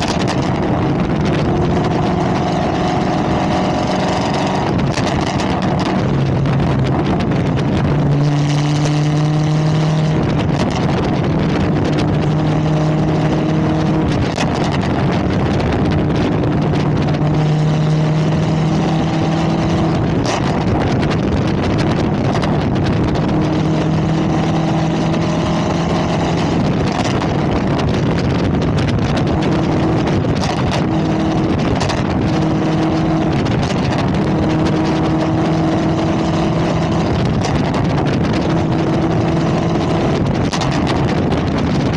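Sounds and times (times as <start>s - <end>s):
car engine droning: 0.0s - 41.9s.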